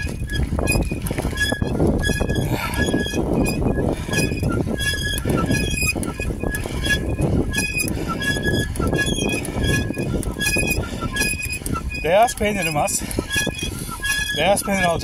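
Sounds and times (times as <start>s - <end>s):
bicycle squeaking: 0.0s - 15.0s
wheels rolling: 0.0s - 15.0s
wind: 0.0s - 15.0s.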